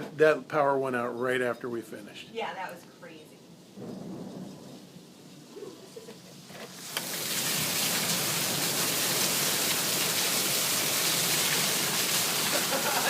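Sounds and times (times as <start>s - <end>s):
heavy rain pouring: 2.0s - 13.0s.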